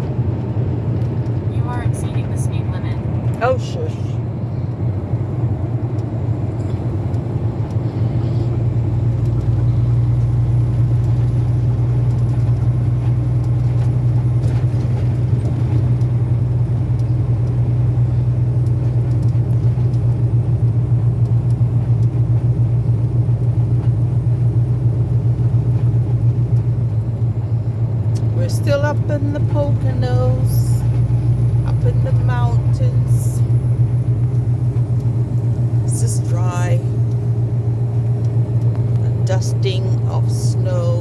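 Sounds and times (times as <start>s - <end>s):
diesel engine drone: 0.0s - 41.0s
road noise: 0.0s - 41.0s.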